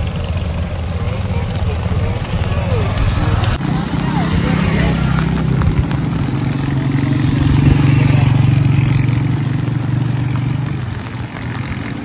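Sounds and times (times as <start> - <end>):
motorcycle engine passing on wet road: 0.0 - 12.0.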